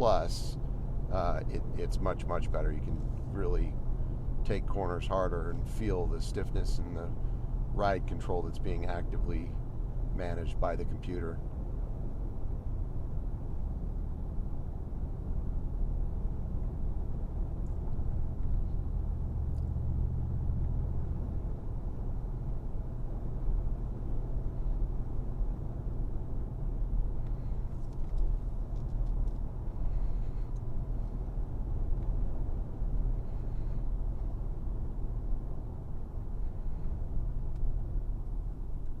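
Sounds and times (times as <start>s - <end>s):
car engine drone: 0.0s - 39.0s
road noise: 0.0s - 39.0s.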